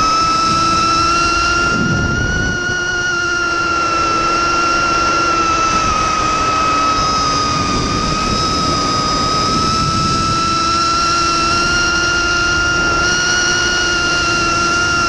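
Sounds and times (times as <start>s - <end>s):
drone motors whining: 0.0s - 15.0s
wind noise: 0.0s - 15.0s.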